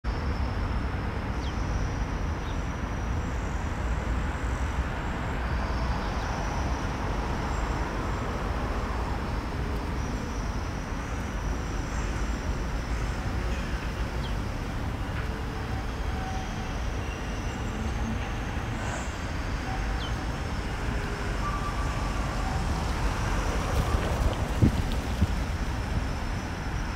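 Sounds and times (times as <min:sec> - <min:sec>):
low rumble of city traffic: 0:00.0 - 0:26.9.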